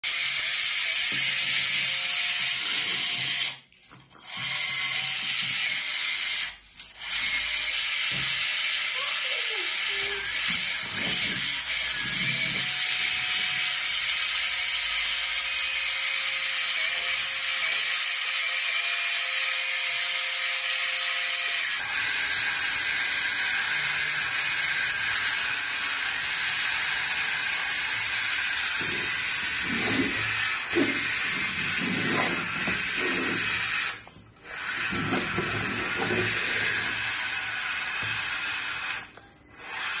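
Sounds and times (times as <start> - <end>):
hydraulic pump whirring: 0.0 - 40.0.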